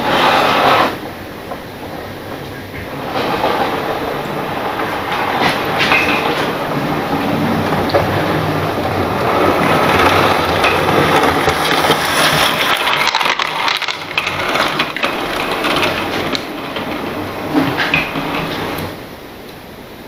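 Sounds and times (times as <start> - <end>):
model train wheels clattering: 0.0 - 19.6.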